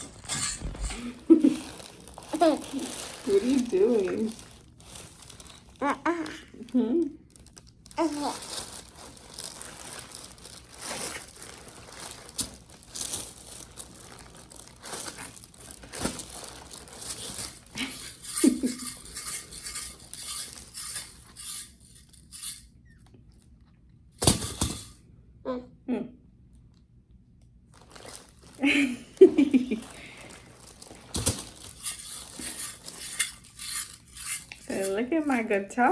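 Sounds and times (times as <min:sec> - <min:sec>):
crinkling and rustling: 0:00.0 - 0:22.7, 0:27.7 - 0:35.9.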